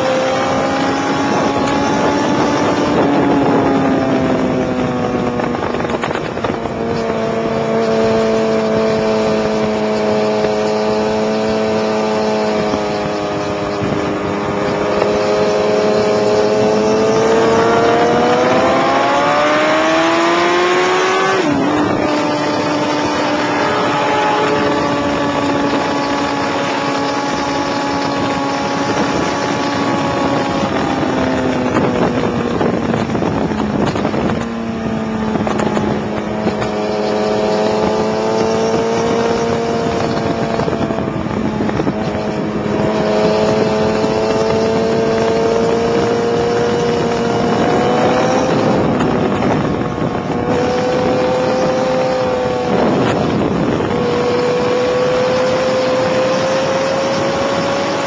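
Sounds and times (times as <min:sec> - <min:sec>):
motorcycle engine running hard: 0:00.0 - 0:58.0
wind rushing over microphone: 0:00.0 - 0:58.0.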